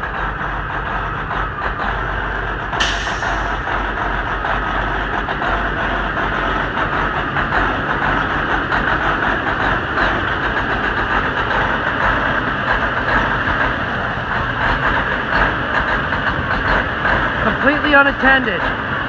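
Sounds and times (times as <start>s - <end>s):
bus engine idling ragged: 0.0s - 19.0s.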